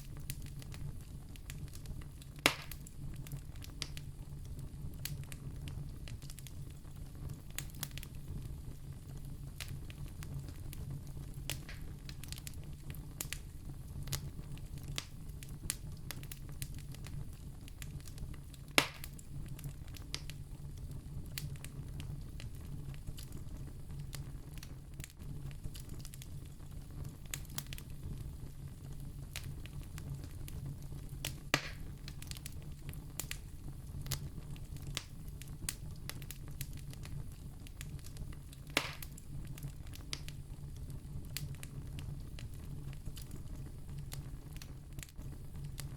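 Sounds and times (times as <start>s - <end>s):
burning wood popping: 0.0s - 8.6s, 9.2s - 45.9s
campfire crackling: 0.0s - 45.9s.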